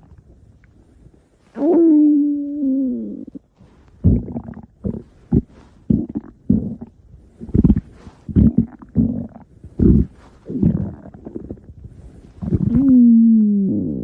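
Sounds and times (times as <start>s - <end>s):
stomach growling: 0.0s - 14.0s.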